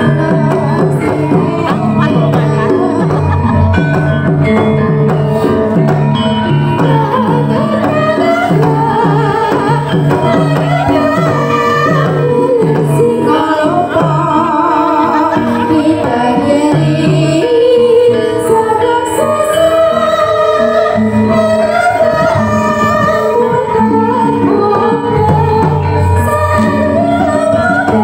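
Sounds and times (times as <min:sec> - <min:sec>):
gamelan music: 0:00.0 - 0:28.0
woman singing: 0:00.0 - 0:28.0.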